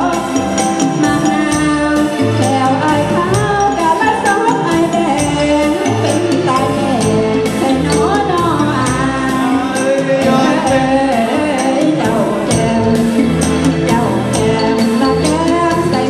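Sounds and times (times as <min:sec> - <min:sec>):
band music: 0:00.0 - 0:16.0
person singing: 0:00.0 - 0:16.0
steady percussion beat: 0:00.0 - 0:16.0.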